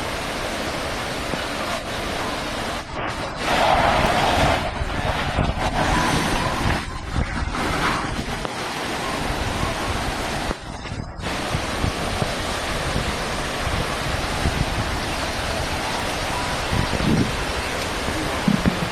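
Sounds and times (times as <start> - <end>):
floodwater rushing: 0.0 - 18.9.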